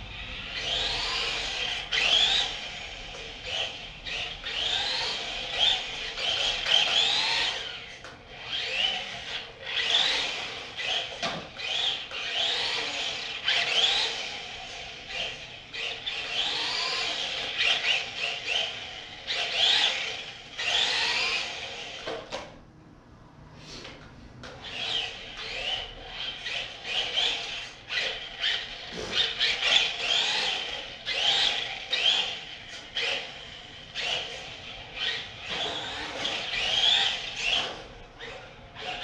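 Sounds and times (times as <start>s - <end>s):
toy car electric motor whining: 0.1s - 22.4s, 24.5s - 39.0s.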